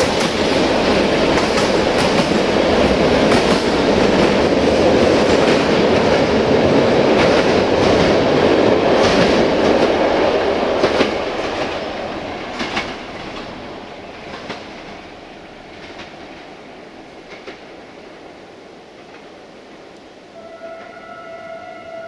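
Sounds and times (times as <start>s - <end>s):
train wheels clicking over rail joints: 0.0s - 17.8s.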